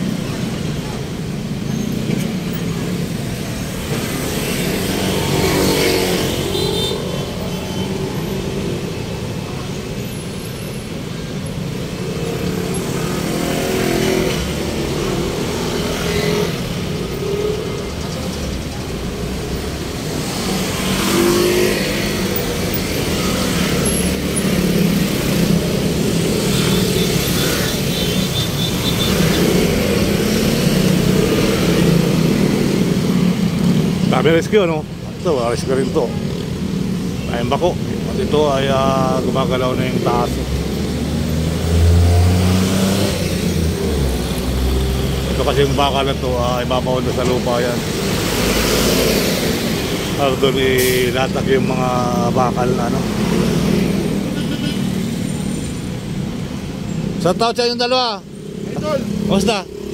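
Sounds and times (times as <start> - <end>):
engines revving: 0.0 - 59.9
vehicles passing: 0.0 - 59.9.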